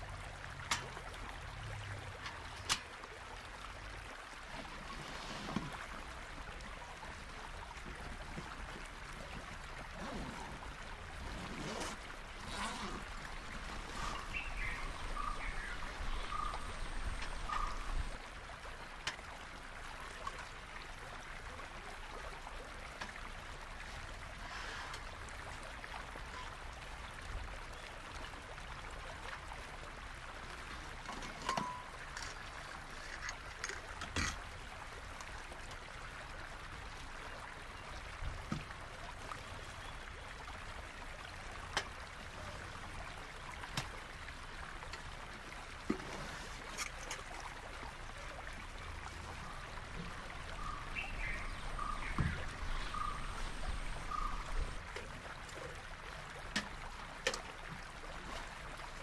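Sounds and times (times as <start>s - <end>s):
stream rushing: 0.0s - 22.1s, 28.4s - 59.0s.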